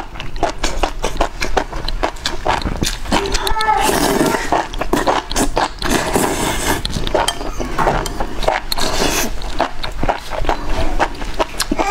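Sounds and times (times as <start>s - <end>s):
mouth clicks: 0.0s - 11.9s
wet chewing and slurping: 0.0s - 11.9s.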